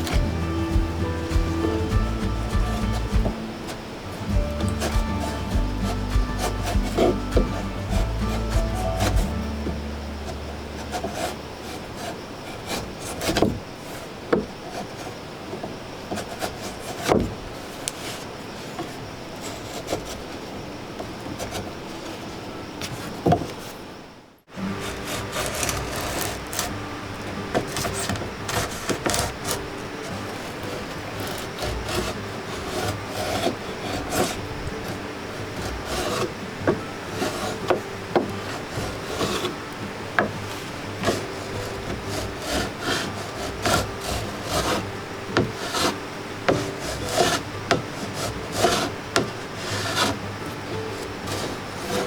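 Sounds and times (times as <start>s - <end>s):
wood scraping and rubbing: 0.0s - 23.9s, 24.6s - 52.0s.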